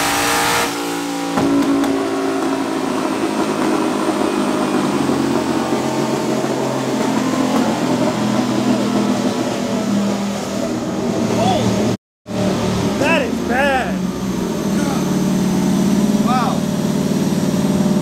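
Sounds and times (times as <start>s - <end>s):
engine droning steadily: 1.2s - 18.0s.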